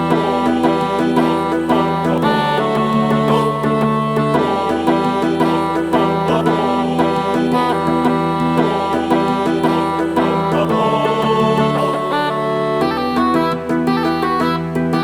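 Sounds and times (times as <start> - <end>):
plucked strings: 0.0 - 15.0
sustained notes: 0.0 - 15.0.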